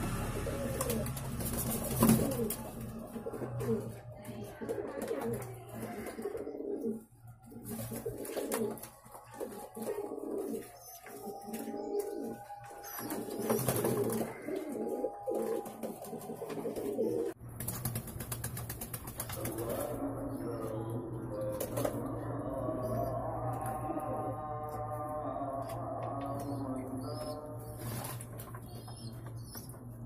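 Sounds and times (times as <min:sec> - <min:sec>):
pigeons cooing: 0:00.0 - 0:17.4, 0:19.3 - 0:29.7.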